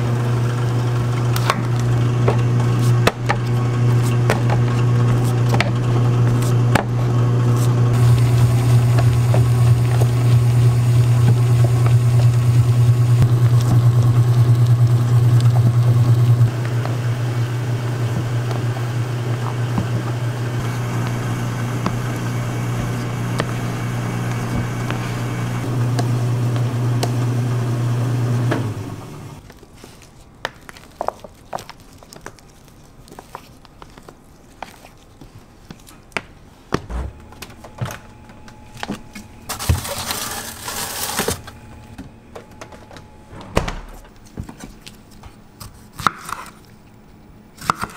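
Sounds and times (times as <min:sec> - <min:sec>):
batch freezer humming: 0:00.0 - 0:30.9, 0:31.6 - 0:47.9.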